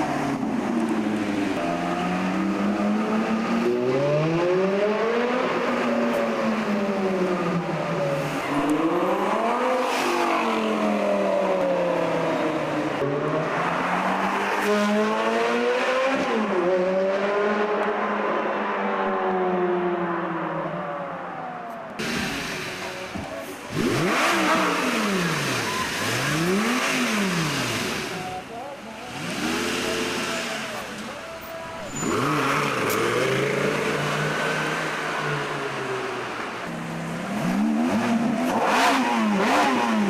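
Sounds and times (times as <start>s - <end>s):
car engine revving: 0.0s - 20.0s, 21.9s - 40.0s.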